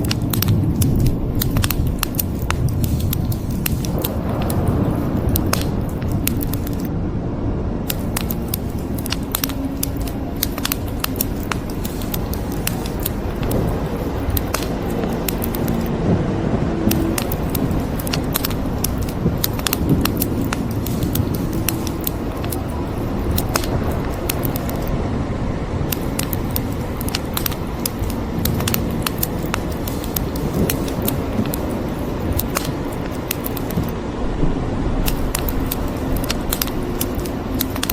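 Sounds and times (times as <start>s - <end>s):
wood fire crackling and popping: 0.0s - 6.9s, 7.8s - 16.1s, 16.8s - 24.9s, 25.8s - 34.0s, 35.0s - 37.9s
rain hissing: 0.0s - 7.0s, 7.8s - 37.9s.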